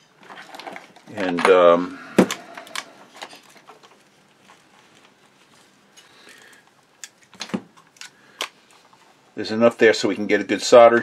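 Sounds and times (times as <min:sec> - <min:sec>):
low room hiss: 0:00.0 - 0:11.0.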